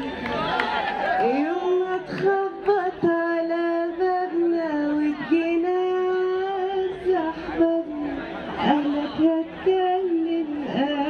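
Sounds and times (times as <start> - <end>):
woman singing: 1.2 - 11.0.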